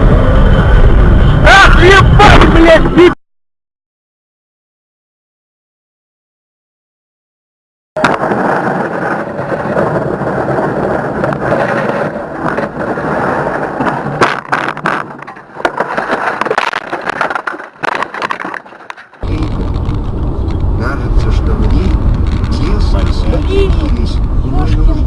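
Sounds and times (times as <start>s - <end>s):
road and tyre rumble: 0.0s - 3.2s, 8.0s - 25.0s.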